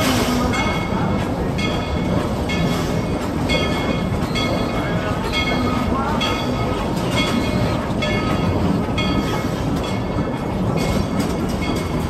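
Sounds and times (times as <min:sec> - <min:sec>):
steam train rumbling: 0:00.0 - 0:12.0
wheels clacking over rail joints: 0:00.0 - 0:12.0.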